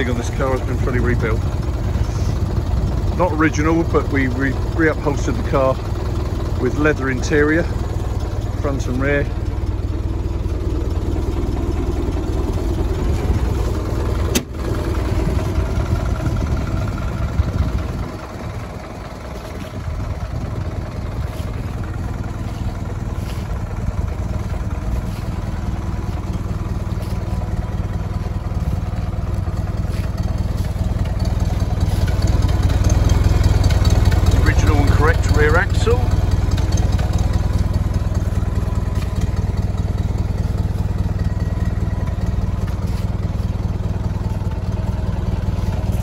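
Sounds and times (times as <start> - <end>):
old car engine idling: 0.0 - 46.0.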